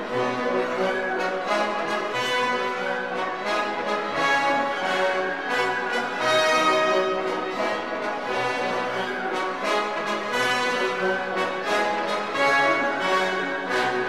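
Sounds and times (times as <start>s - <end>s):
orchestral music with brass: 0.0s - 14.0s.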